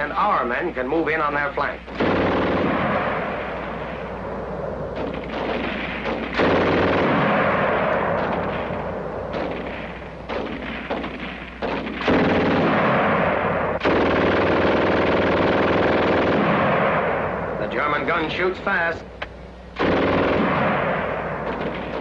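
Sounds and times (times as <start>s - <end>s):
machine-gun fire: 1.1s - 4.3s, 4.9s - 18.5s, 19.8s - 22.0s.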